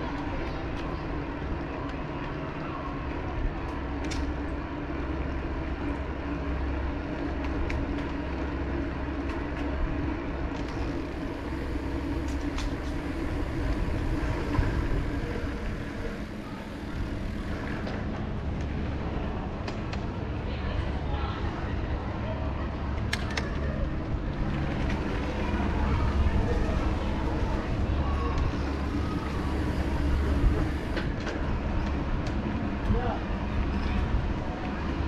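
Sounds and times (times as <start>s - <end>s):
bike riding rumble: 0.0s - 35.0s.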